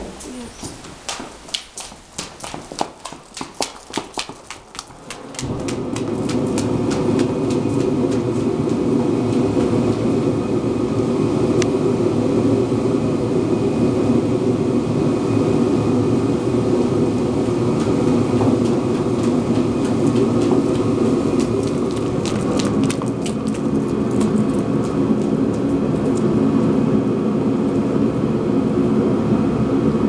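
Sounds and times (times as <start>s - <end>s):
steady mechanical whir: 4.9s - 30.0s.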